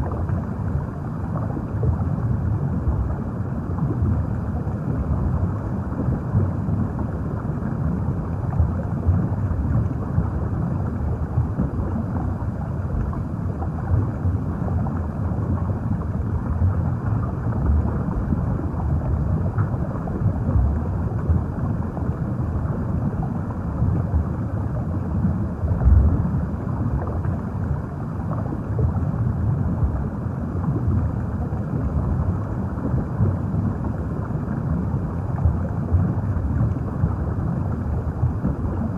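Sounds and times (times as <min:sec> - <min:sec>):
underwater rush of water: 0:00.0 - 0:38.9.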